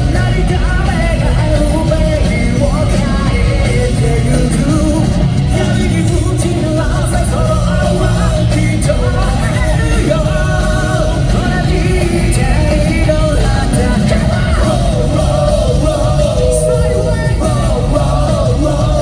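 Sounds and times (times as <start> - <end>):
lead singer singing: 0.0 - 19.0
live rock band playing: 0.0 - 19.0.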